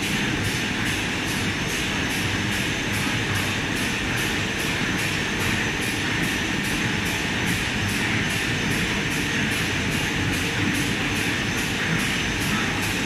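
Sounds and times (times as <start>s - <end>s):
laminating machine whirring: 0.0s - 13.0s.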